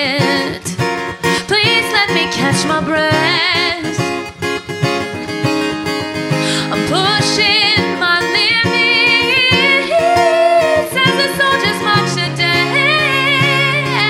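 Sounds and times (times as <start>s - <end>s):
woman singing with vibrato: 0.0s - 4.2s, 6.5s - 14.0s
strummed acoustic guitar: 0.0s - 14.0s.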